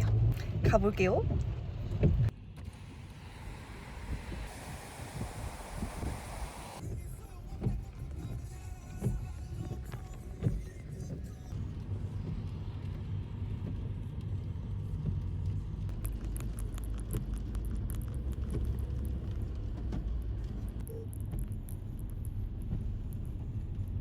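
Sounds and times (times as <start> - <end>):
car engine and road noise: 0.0 - 7.7, 8.6 - 24.0.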